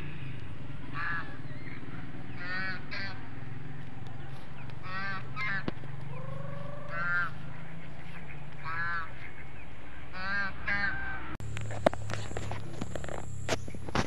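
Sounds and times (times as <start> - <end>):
ducks quacking: 0.0 - 11.4.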